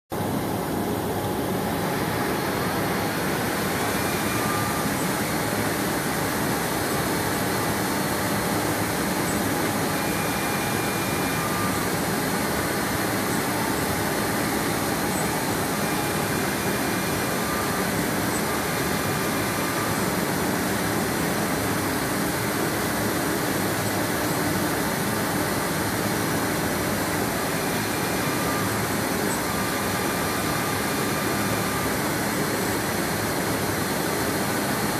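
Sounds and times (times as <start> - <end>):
cnc router cutting panel: 0.2 - 34.9.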